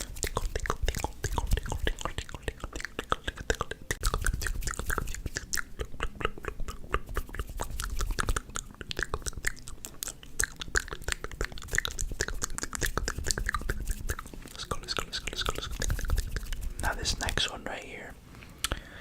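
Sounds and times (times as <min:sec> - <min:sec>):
wet mouth clicks and smacks: 0:00.0 - 0:17.4, 0:18.6 - 0:18.8.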